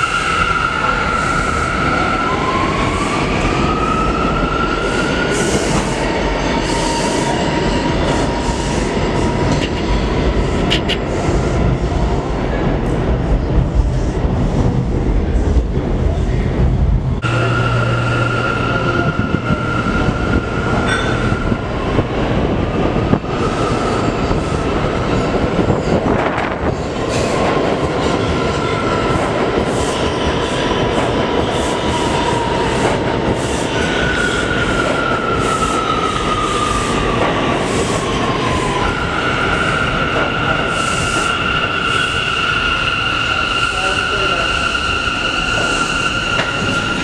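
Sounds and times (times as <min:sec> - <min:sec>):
subway train rumble: 0:00.0 - 0:47.0.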